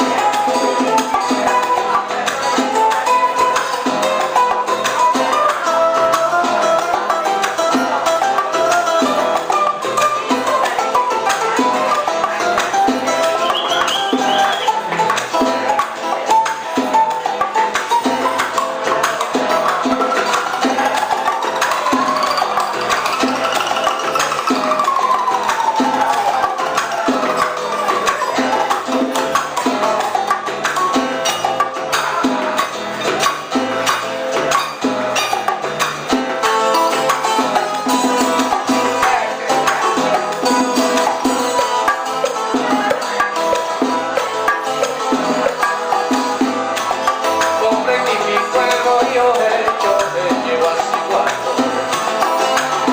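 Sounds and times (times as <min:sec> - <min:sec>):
live band playing: 0:00.0 - 0:52.9
percussion beat: 0:00.0 - 0:52.9
plucked-string melody: 0:00.0 - 0:52.9.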